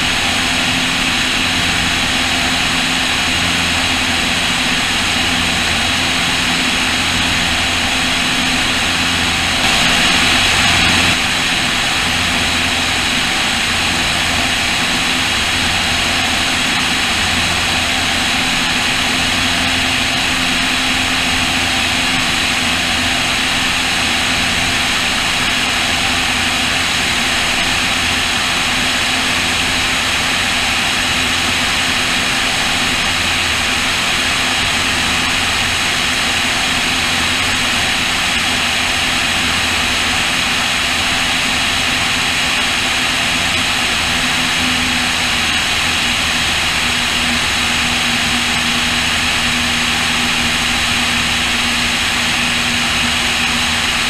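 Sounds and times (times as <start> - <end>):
aircraft engines droning: 0.0 - 54.0.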